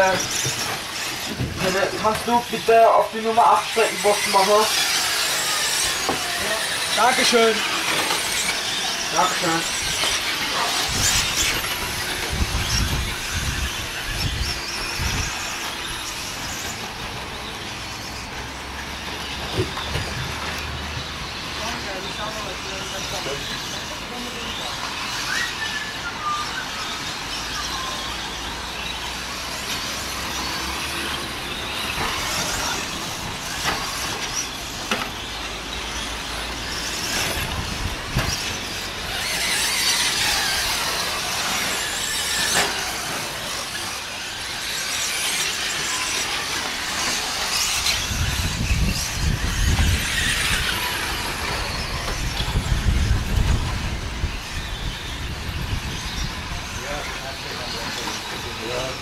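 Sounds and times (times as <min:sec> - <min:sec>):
rc truck motors whining: 0:00.0 - 0:59.0.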